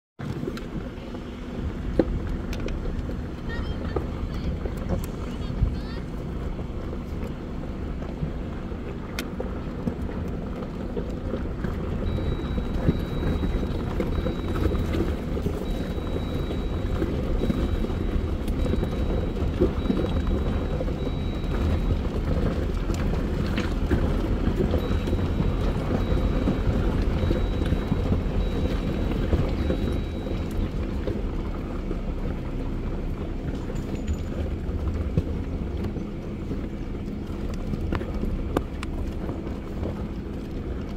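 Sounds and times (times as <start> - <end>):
knocks and rattles over rocks: 0.2 - 40.9
vehicle engine and tyres rumbling: 0.2 - 40.9.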